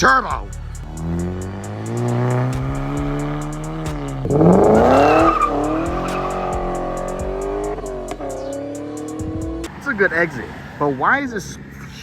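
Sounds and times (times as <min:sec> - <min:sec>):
car engine revving: 0:00.0 - 0:12.0
tire squeal: 0:00.0 - 0:12.0.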